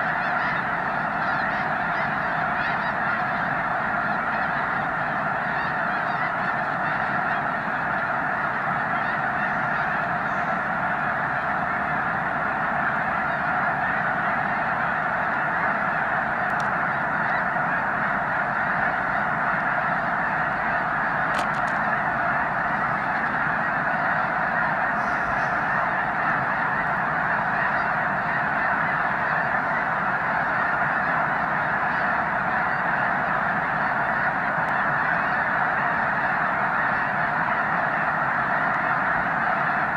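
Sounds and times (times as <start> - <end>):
flock of geese honking: 0.0 - 39.9.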